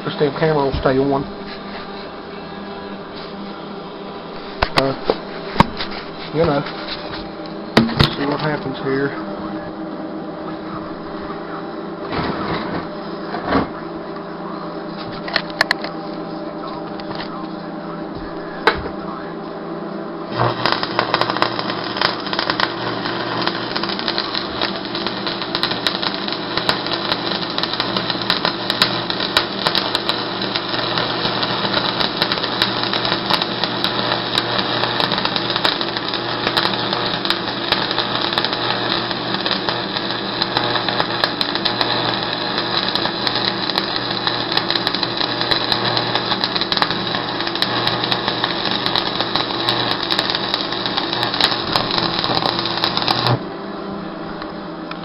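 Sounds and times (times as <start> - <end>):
welding arc crackling sizzle: 0.0 - 9.6, 20.2 - 55.0.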